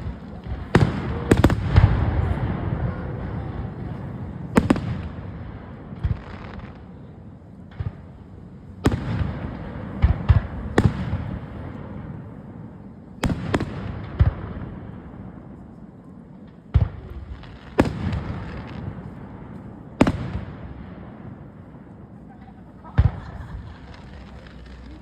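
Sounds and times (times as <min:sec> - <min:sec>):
fireworks bangs: 0:00.0 - 0:25.0
low rumble of echoing bursts: 0:00.0 - 0:25.0.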